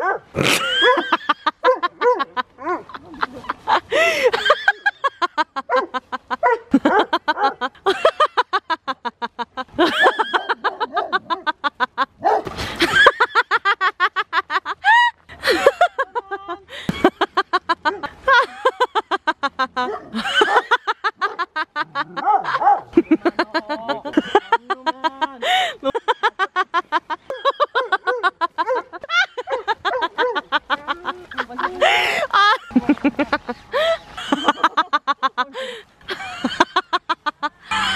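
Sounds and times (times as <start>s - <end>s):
woman laughing: 0.4s - 37.9s.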